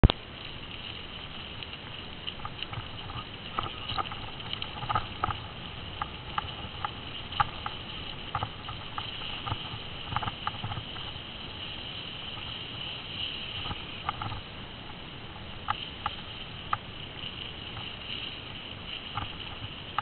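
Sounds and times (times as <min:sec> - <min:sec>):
bicycle rattling over bumps: 0:00.0 - 0:20.0.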